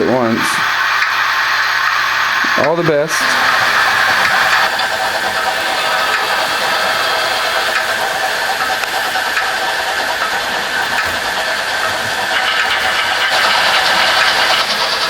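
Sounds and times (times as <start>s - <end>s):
model train motor whirring: 0.0s - 15.0s
wheels rattling on track: 0.0s - 15.0s.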